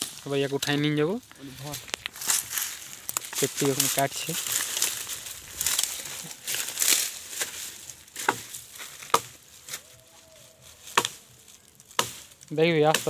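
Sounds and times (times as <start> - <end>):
dry brush rustling: 0.0 - 13.0
dry wood cracking: 0.0 - 13.0.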